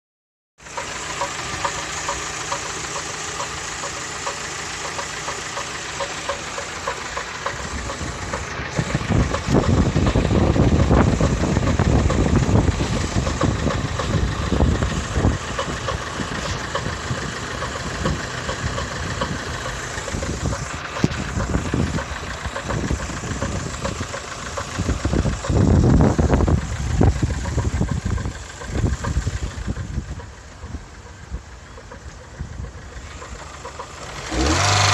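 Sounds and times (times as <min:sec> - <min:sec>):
engine running with a knock: 0:00.6 - 0:34.9.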